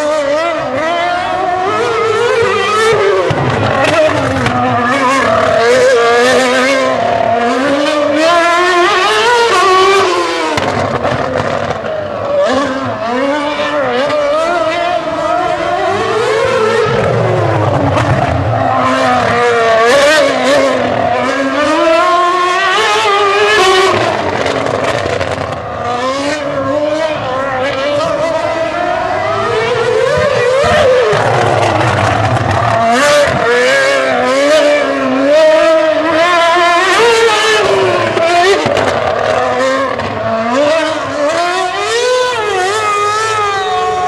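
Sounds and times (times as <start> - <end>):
racing car engine revving: 0.0 - 44.0.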